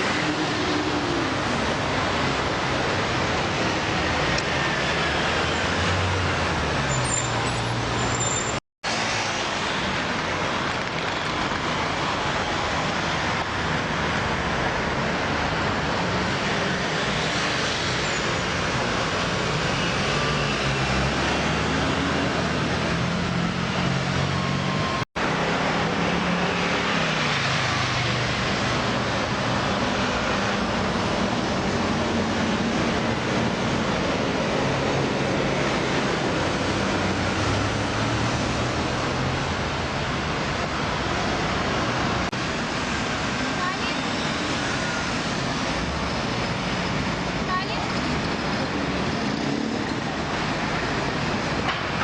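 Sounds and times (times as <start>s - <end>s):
constant roar of traffic: 0.0s - 52.0s
vehicles passing: 0.0s - 52.0s.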